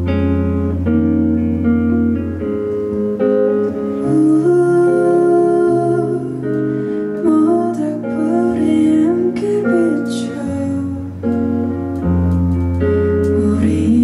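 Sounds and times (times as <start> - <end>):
acoustic guitar: 0.0 - 14.0
person singing ballad: 0.0 - 14.0.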